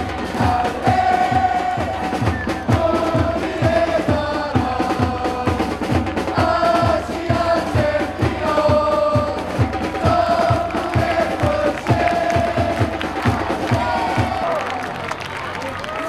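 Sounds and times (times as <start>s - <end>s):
bass drum beat: 0.0s - 14.6s
football supporters chanting: 0.0s - 14.8s.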